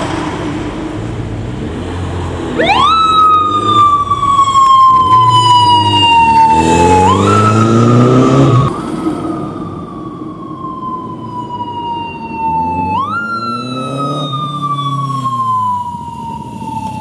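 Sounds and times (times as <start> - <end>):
engine revving: 0.0 - 17.0
motorcycle siren wailing: 1.2 - 17.0.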